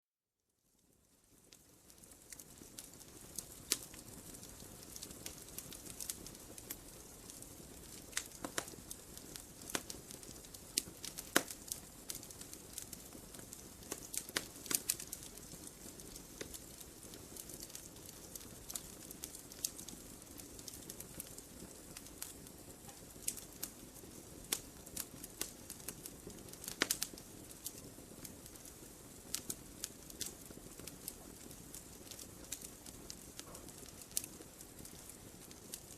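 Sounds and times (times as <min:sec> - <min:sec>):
firewood crackling and popping: 0:00.8 - 0:35.9
flames hissing: 0:01.9 - 0:35.9.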